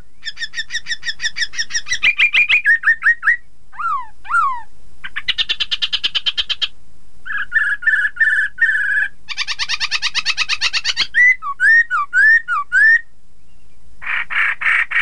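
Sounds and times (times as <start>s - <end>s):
bird singing varied song: 0.0s - 15.0s.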